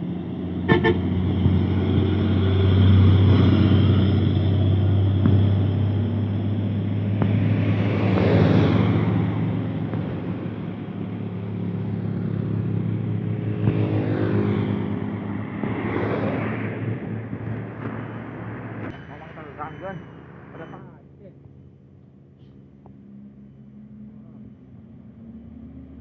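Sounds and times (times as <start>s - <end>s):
vehicles passing by: 0.0s - 26.0s.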